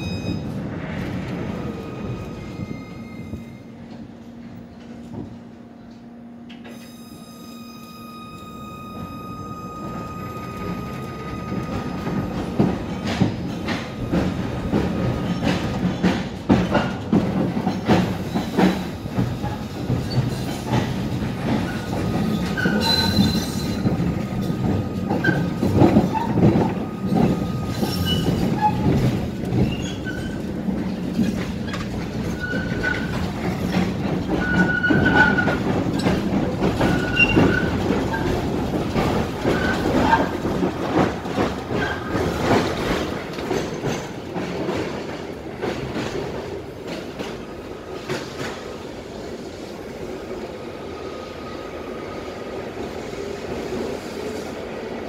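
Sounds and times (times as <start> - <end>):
tram wheels rumbling on rail: 0.0 - 55.0.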